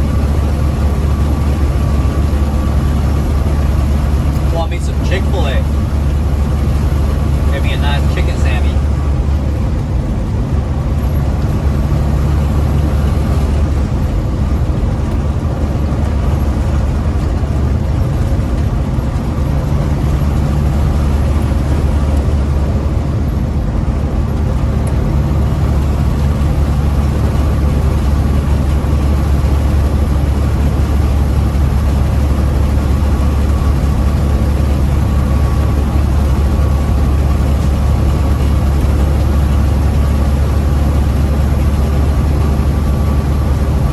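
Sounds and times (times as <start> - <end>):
truck diesel engine drone: 0.0 - 43.9.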